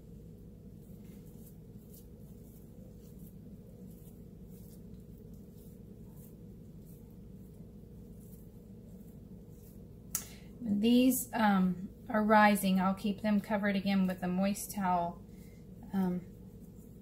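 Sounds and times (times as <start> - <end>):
hands rustling and tapping dough: 0.0 - 11.3, 12.0 - 17.0
steady low hum: 0.0 - 17.0.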